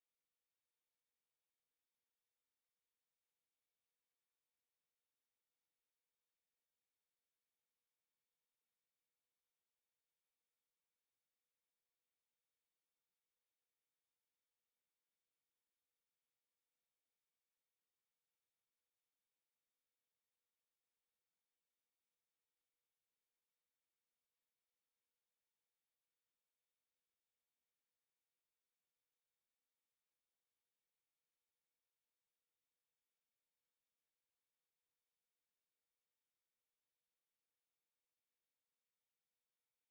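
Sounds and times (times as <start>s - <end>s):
high-pitched sine test tone: 0.0s - 39.9s.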